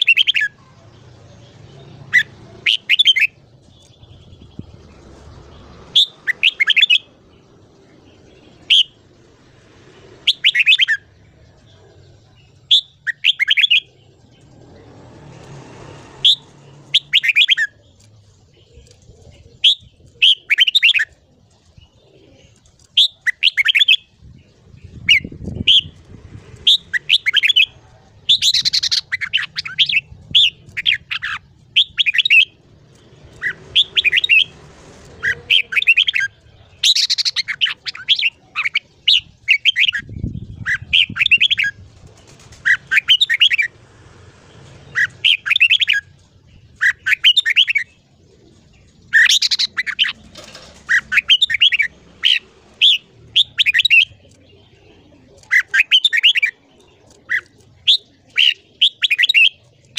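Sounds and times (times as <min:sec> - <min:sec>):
bird singing warbling phrases: 0:00.0 - 0:09.4, 0:10.2 - 0:14.9, 0:16.2 - 0:34.6, 0:35.2 - 0:43.7, 0:44.7 - 0:59.9.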